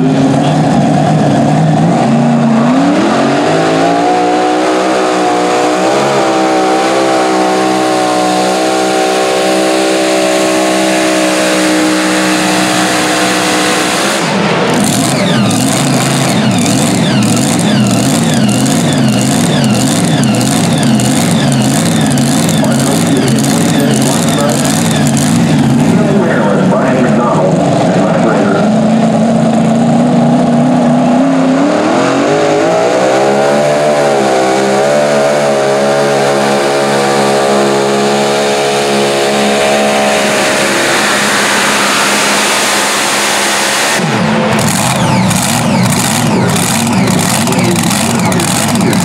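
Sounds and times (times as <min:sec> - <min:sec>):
tractor engine revving: 0:00.0 - 0:49.0.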